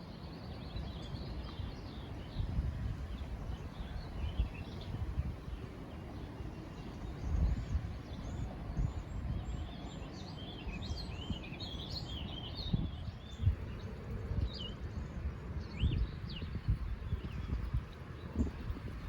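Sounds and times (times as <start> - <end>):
small birds chirping and trilling: 0.0 - 19.0.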